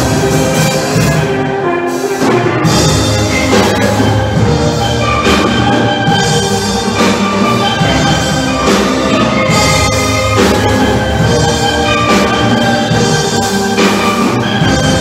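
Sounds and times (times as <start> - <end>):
sharp percussion accents: 0.0 - 15.0
steel band playing: 0.0 - 15.0.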